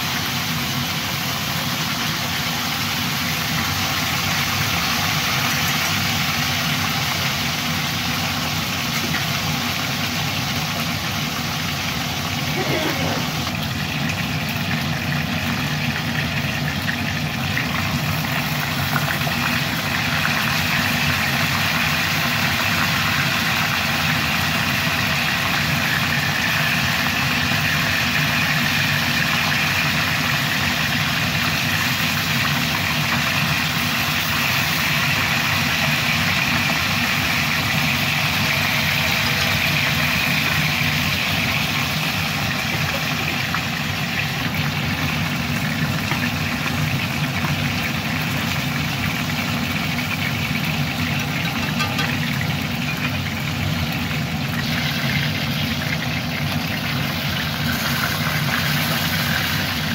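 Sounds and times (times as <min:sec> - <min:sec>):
wings sizzling in hot oil: 0:00.0 - 0:59.9.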